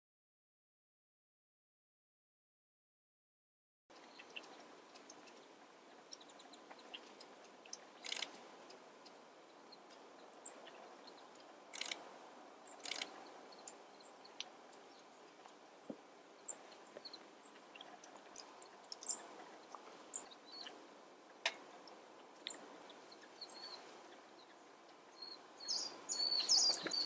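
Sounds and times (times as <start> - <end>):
small birds chirping: 3.9 - 27.0.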